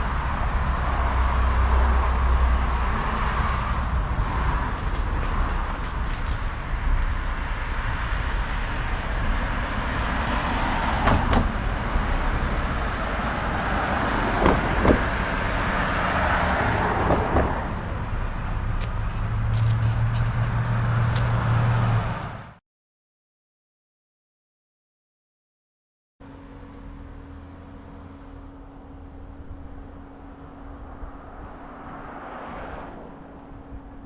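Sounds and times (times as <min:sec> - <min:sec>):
vehicle road noise: 0:00.0 - 0:22.6, 0:26.2 - 0:34.0.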